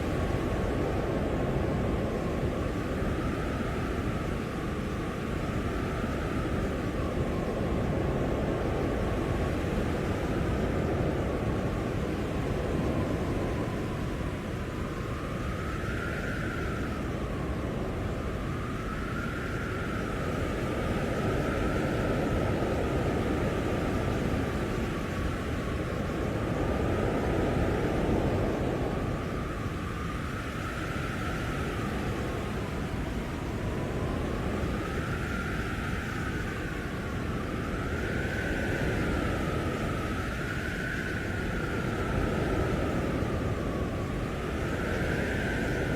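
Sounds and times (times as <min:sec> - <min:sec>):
blizzard wind whistling: 0:00.0 - 0:45.9.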